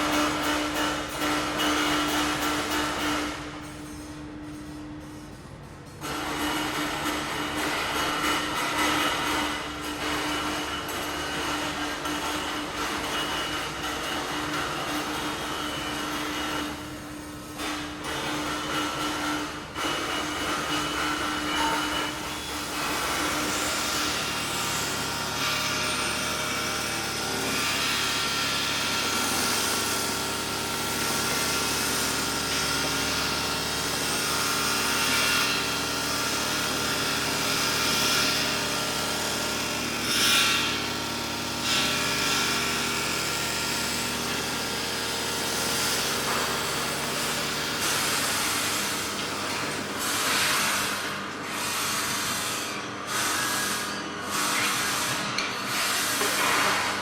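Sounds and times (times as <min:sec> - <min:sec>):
power tool noise: 0:06.0 - 0:57.0.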